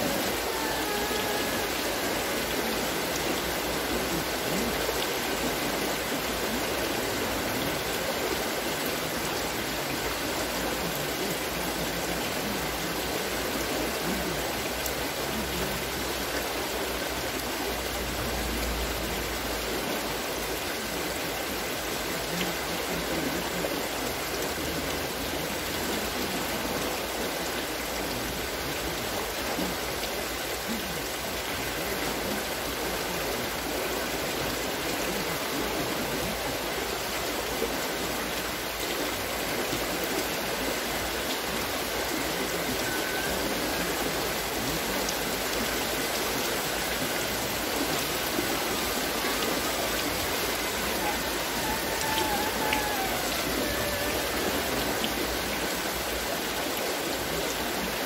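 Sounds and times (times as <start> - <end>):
water splashing from water wheel: 0.0 - 58.0.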